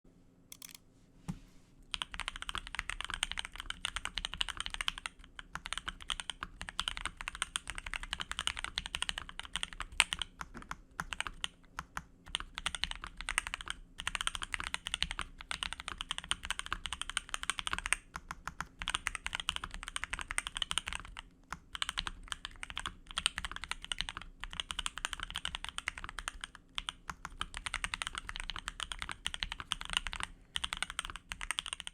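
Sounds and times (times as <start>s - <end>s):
typing on mechanical keyboard: 0.5s - 0.8s, 1.9s - 31.9s.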